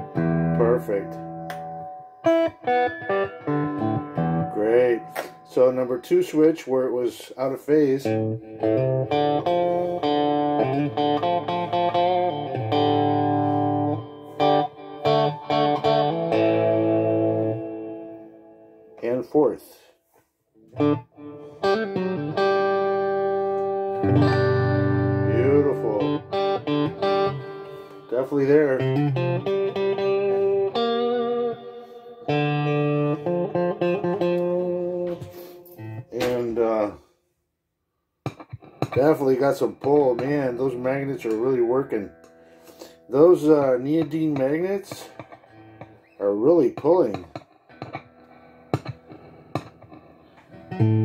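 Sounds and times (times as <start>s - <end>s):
electric guitar chords and strums: 0.0s - 7.0s, 7.8s - 19.4s, 20.6s - 37.1s, 38.2s - 51.0s.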